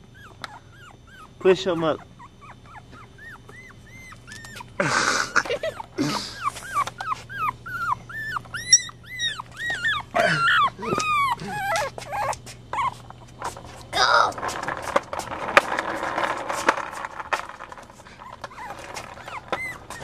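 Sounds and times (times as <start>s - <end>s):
puppy whining: 0.0s - 14.5s, 17.6s - 20.0s.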